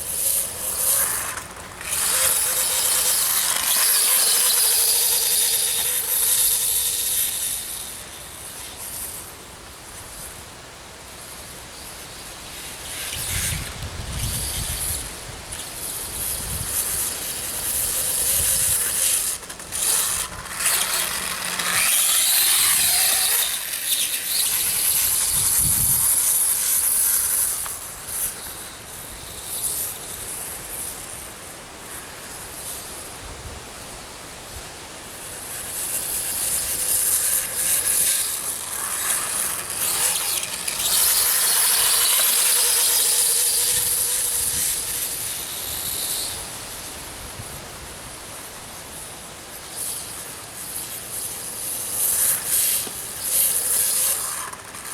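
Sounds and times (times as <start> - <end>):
electric motor whine: 0.0 - 54.9.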